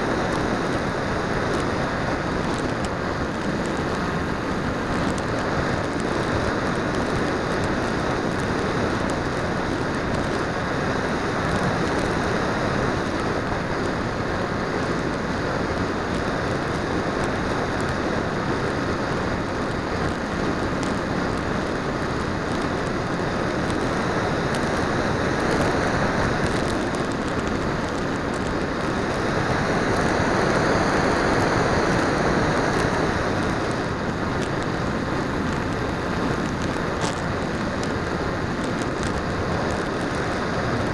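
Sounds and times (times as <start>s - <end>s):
propeller noise: 0.0s - 40.9s.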